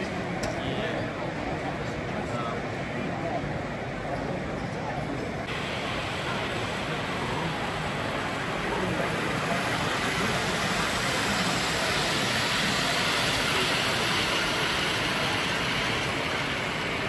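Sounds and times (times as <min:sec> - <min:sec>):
crowded hall din: 0:00.0 - 0:17.0.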